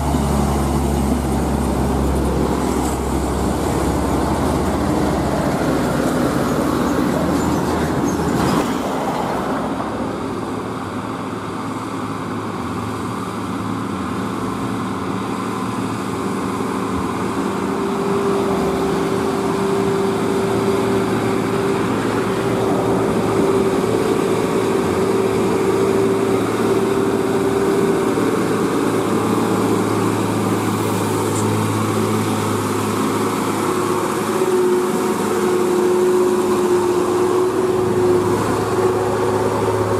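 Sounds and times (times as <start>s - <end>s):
truck diesel engines: 0.0s - 39.9s.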